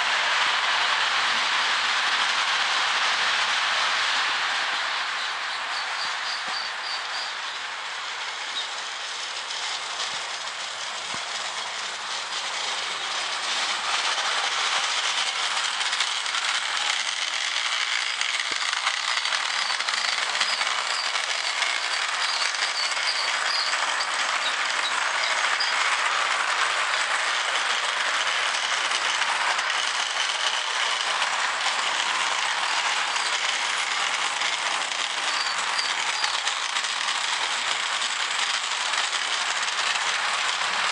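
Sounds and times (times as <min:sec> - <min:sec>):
model train wheels clattering on rails: 0:00.0 - 0:40.9.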